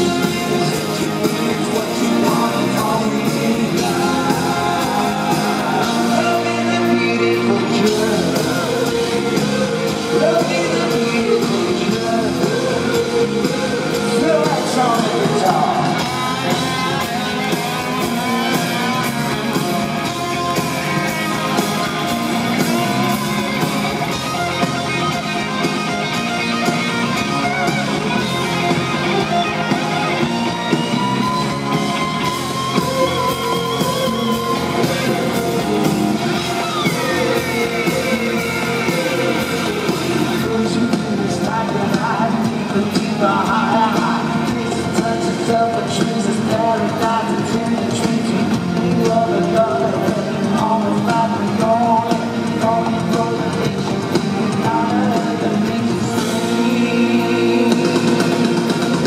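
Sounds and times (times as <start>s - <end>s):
electric guitar: 0.0s - 59.0s
live rock band: 0.0s - 59.0s
man singing lead vocals: 0.0s - 59.0s.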